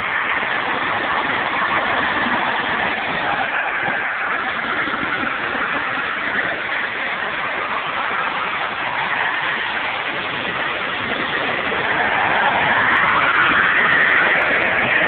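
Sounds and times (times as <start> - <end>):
go-kart jet engine running: 0.0 - 15.0.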